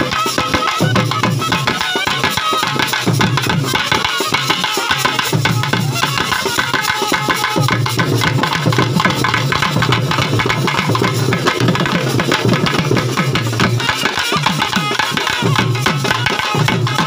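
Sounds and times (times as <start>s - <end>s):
barrel drums in fast rhythm: 0.0s - 17.0s.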